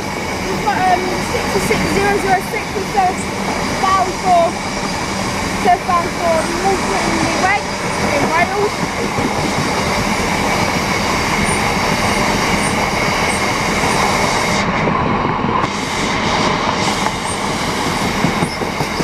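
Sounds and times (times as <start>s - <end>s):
wagons running over rails: 0.0s - 15.8s, 16.4s - 19.0s
freight train passing at speed: 0.0s - 19.0s.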